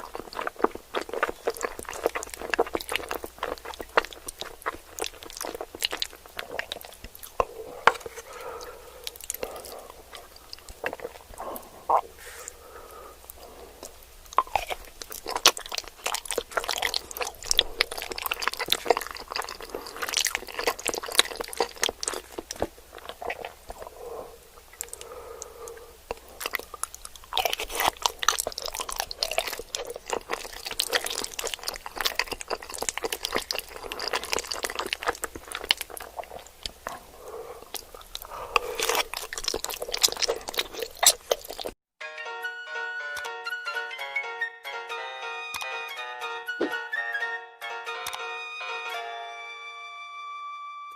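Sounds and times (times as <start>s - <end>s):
food crunching while chewed: 0.0s - 41.8s
wet mouth sounds: 0.0s - 41.8s.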